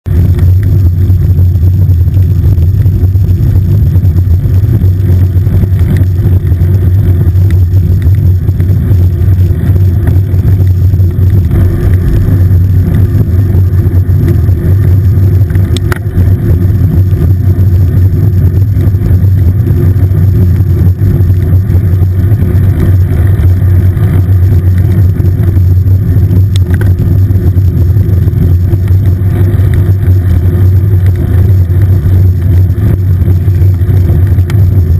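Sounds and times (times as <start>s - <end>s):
road vibration rumble: 0.0s - 34.9s
wind buffeting microphone: 0.0s - 34.9s.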